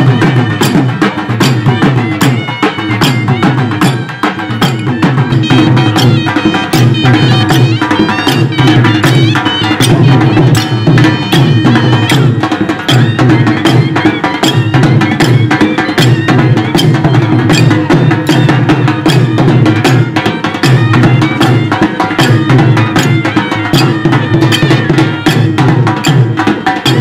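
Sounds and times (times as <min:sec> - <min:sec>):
dhol drums beating fast rhythm: 0:00.0 - 0:27.0
wavering wind instrument melody: 0:00.0 - 0:27.0.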